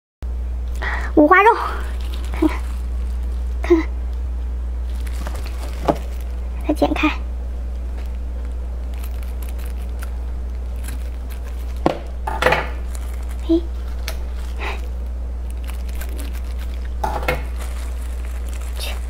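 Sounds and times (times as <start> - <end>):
steady low hum: 0.2 - 19.0
plastic gloves rustling: 0.6 - 19.0.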